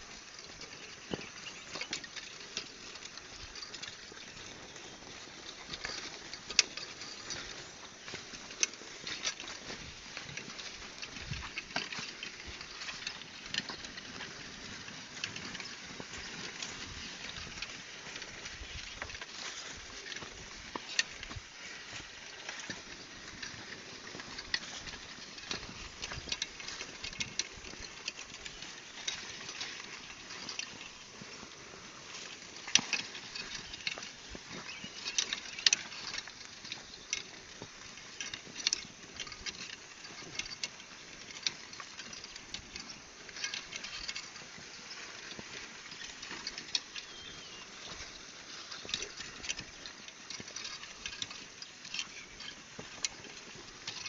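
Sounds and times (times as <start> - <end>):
plow crackling and scraping soil: 0.0 - 54.0.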